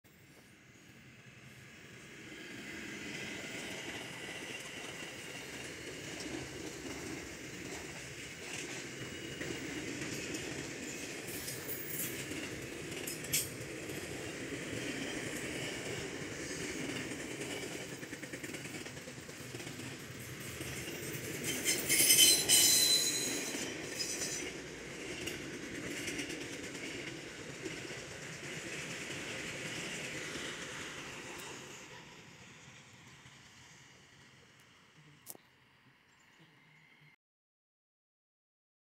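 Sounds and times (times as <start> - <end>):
freight train rumble and wheel clatter: 0.1 - 35.2
diesel locomotive passing: 0.1 - 37.2.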